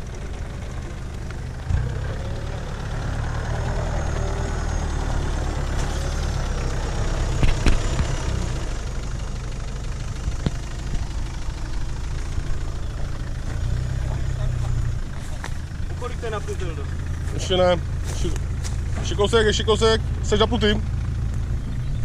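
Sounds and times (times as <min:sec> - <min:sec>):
truck engine running at low revs: 0:00.0 - 0:22.0.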